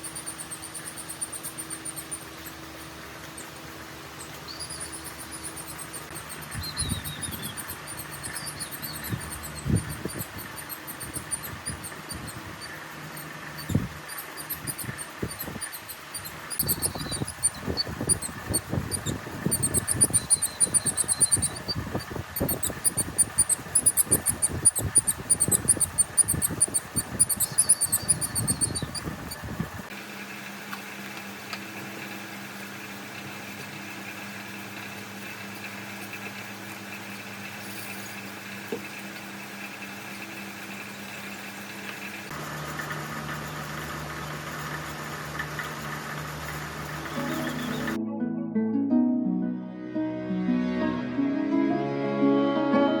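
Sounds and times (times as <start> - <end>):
squeaky scraping and rattling: 0.0 - 29.9, 33.2 - 43.9, 44.5 - 48.0
machine hum with whine: 0.0 - 48.0.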